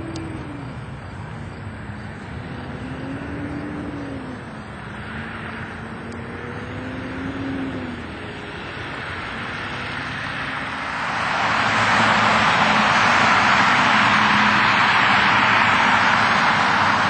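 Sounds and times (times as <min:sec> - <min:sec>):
jet airliner roar at takeoff: 0:00.0 - 0:17.0.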